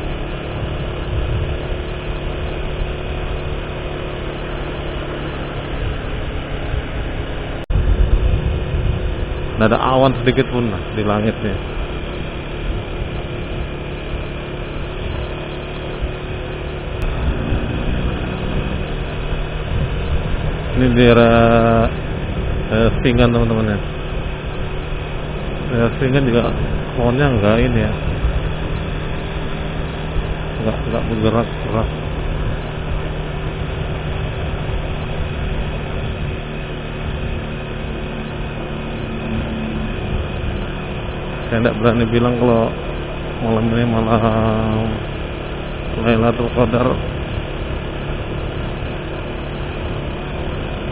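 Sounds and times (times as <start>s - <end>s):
road noise: 0.0s - 50.9s
vehicle engine running: 0.0s - 50.9s.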